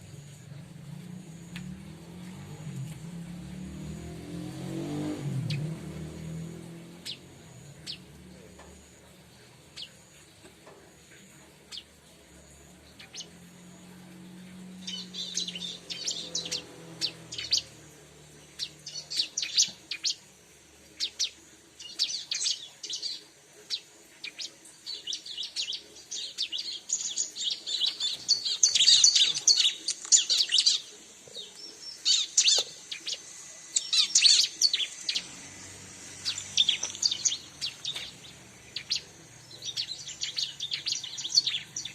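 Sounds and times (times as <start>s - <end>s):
low engine rumble: 0.0s - 41.9s
bird high chirps and twittering: 1.3s - 10.4s, 11.0s - 41.9s.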